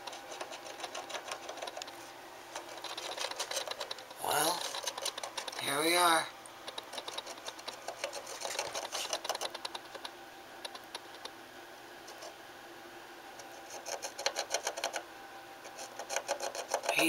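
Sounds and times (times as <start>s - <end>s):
animal scratching inside a wall: 0.0s - 5.8s, 6.6s - 11.3s, 12.0s - 12.4s, 13.4s - 15.0s, 15.6s - 17.0s.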